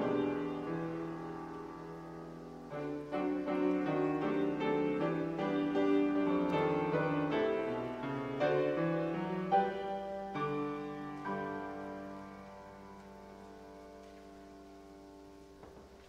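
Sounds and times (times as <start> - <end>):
grand piano playing gentle piece: 0.0 - 16.0.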